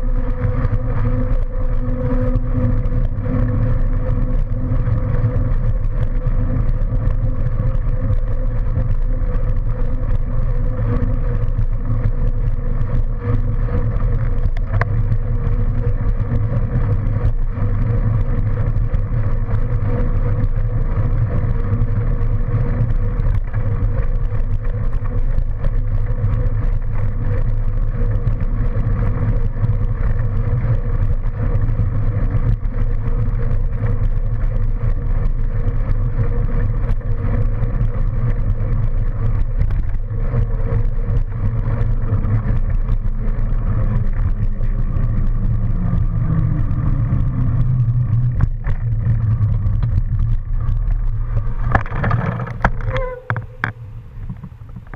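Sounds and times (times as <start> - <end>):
steady hum: 0.0 - 54.9
tyres rolling on pavement: 0.1 - 54.9.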